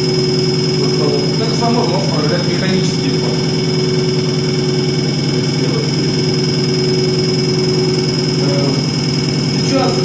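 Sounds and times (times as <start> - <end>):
fuel pump test bench whine: 0.0 - 10.0.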